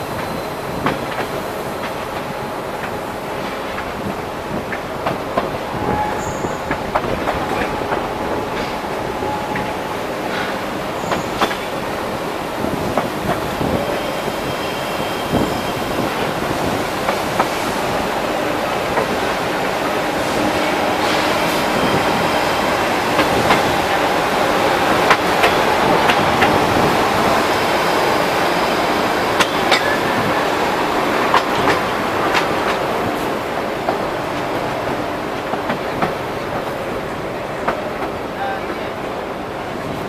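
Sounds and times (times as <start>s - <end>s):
train rumble: 0.0s - 40.0s.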